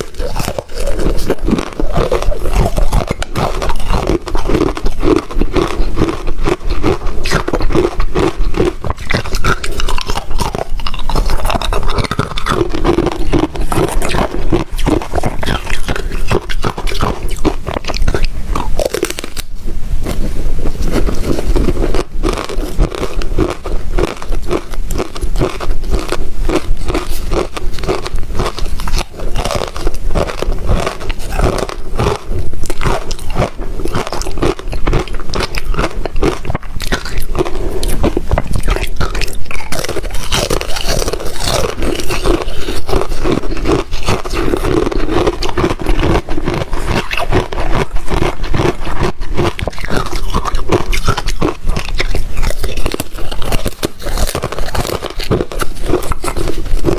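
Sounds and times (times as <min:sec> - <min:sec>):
ice being chewed: 0:00.0 - 0:19.5, 0:20.1 - 0:56.9.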